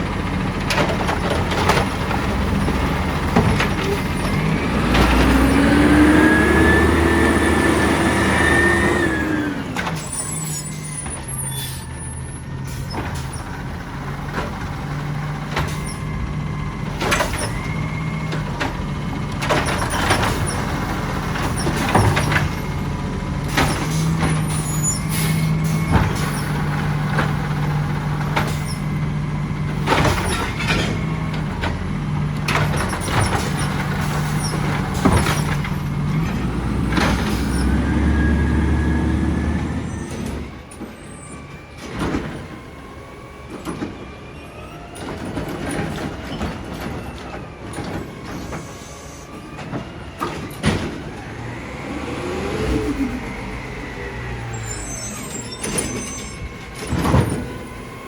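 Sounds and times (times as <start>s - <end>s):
garbage truck diesel engine: 0.0s - 58.0s.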